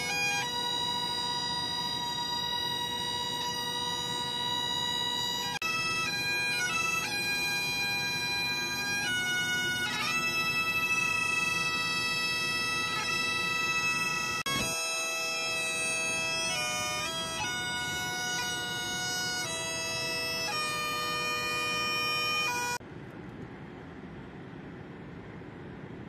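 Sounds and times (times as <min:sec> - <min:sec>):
bagpipes playing: 0:00.0 - 0:22.8.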